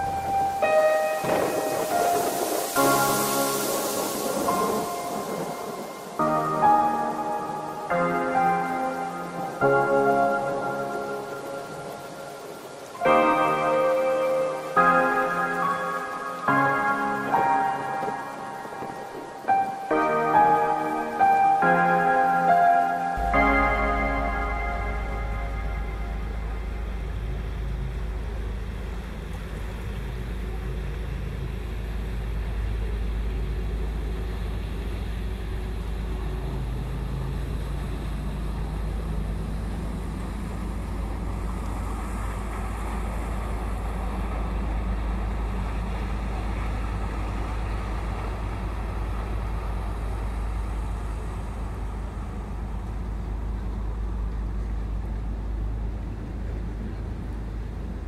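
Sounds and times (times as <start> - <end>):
broad rushing noise: 0.0 - 58.0
ship engine running: 0.0 - 58.0.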